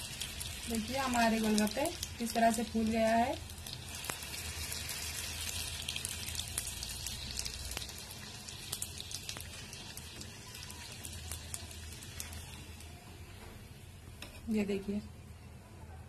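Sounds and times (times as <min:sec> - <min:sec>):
deep-frying sizzle with crackles: 0:00.0 - 0:15.1.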